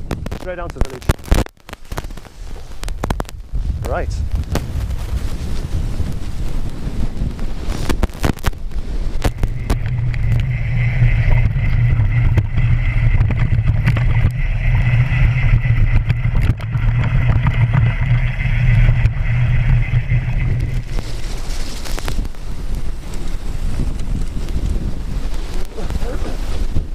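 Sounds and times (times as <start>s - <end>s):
wind rumbling on microphone: 0.0s - 26.9s.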